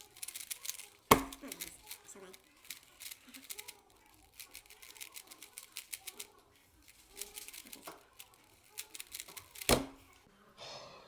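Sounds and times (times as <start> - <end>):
plastic puzzle cube clicking: 0.0 - 10.2.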